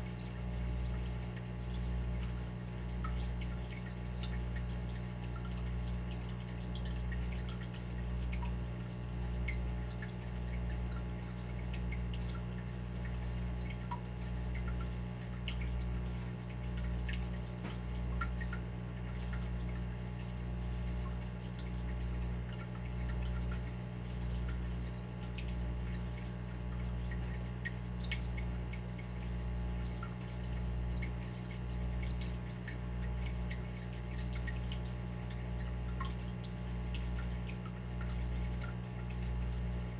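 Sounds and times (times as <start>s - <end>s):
water dripping: 0.1s - 39.9s.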